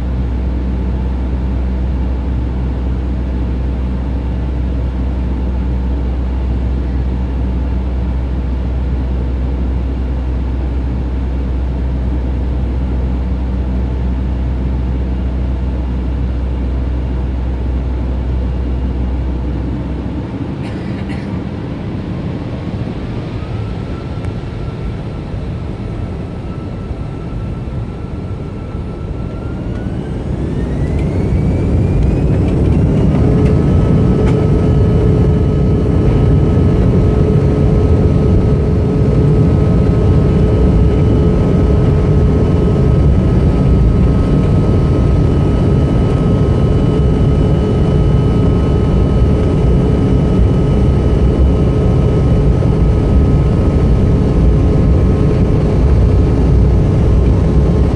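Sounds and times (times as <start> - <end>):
jet engines rumbling and whining: 0.0 - 57.9.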